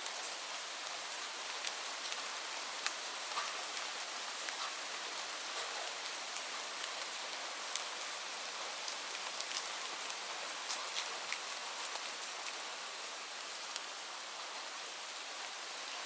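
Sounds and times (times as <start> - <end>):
rain pattering on leaves: 0.0 - 16.0.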